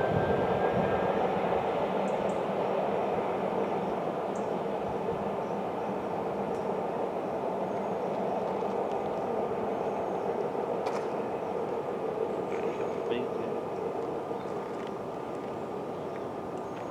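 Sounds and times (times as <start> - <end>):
train rumbling: 0.0 - 16.9.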